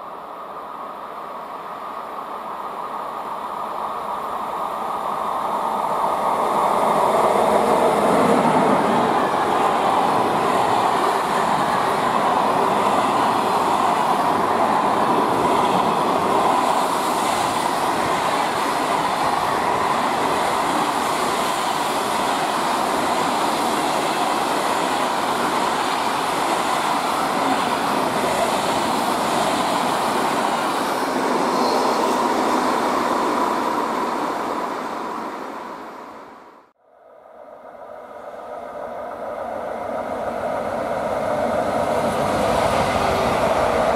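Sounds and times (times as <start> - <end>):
freight train wheels rumbling: 0.0 - 36.1, 38.0 - 43.9.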